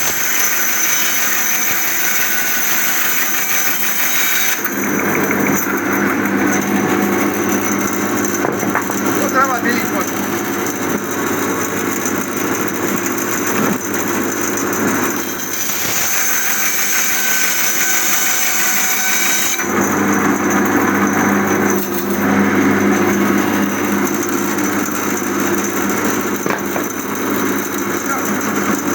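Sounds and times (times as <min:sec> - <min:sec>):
band saw ripping a log: 0:00.0 - 0:28.9.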